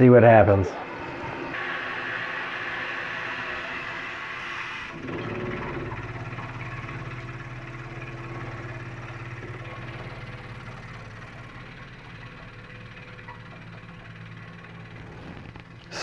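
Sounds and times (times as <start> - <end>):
water pipes buzzing: 0.0 - 16.0.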